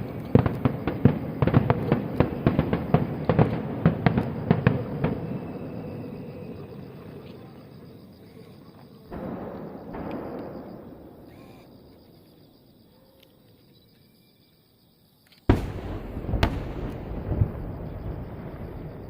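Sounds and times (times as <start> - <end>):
fireworks booming: 0.0 - 8.4, 9.0 - 12.6, 15.5 - 19.0.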